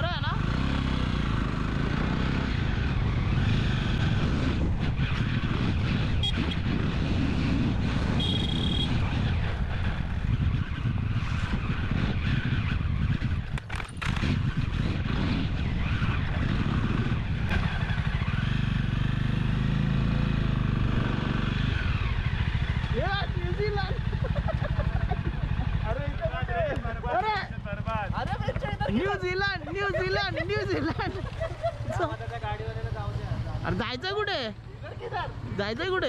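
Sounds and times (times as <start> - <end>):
motorcycle engine running: 0.0 - 36.0
road noise: 0.0 - 36.0.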